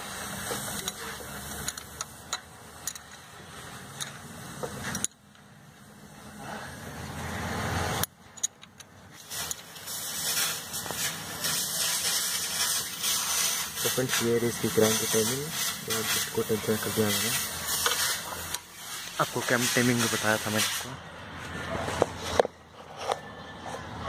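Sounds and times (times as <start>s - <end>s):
steady background hiss: 0.0s - 21.3s.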